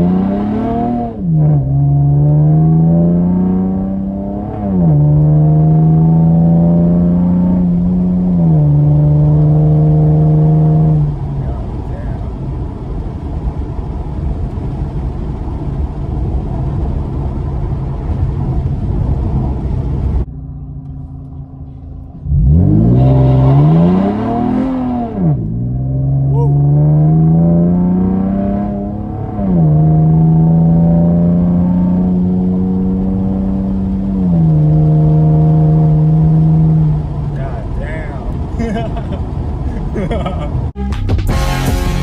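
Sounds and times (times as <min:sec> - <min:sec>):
car engine revving: 0:00.0 - 0:42.0
road noise: 0:00.0 - 0:42.0.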